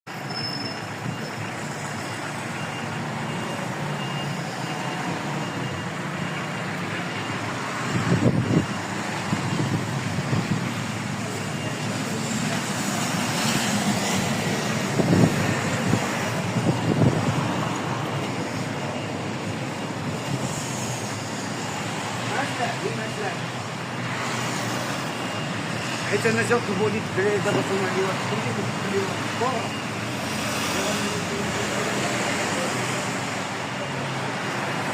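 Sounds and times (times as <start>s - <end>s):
traffic on wet street: 0.1s - 34.9s.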